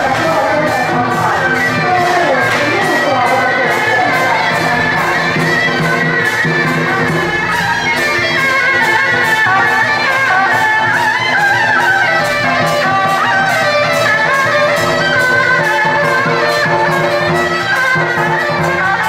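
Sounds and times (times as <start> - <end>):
steady percussion beat: 0.0 - 19.0.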